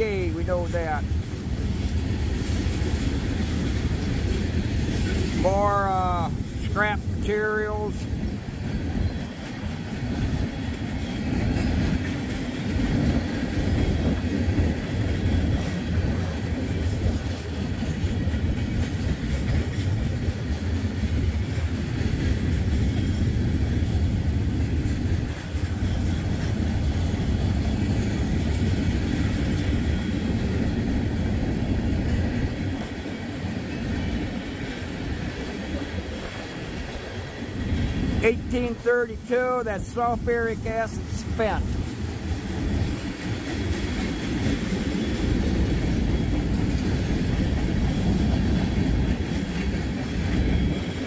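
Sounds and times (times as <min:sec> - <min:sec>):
freight train cars rolling past: 0:00.0 - 0:51.0.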